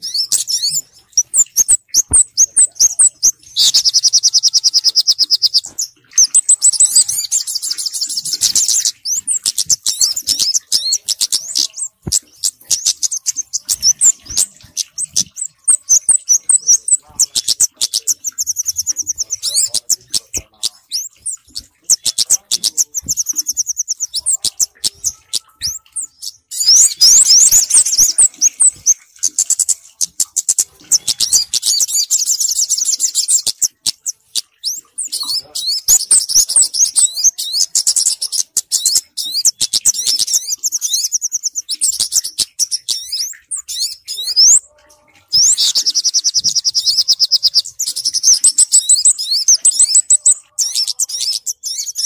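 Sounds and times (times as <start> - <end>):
birds chirping and trilling: 0.0 - 52.0.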